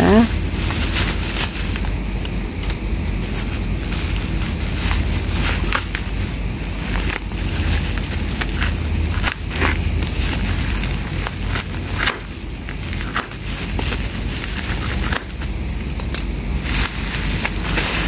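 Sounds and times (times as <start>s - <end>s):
low rumble: 0.0s - 18.0s
plastic packaging crinkling: 0.0s - 18.0s.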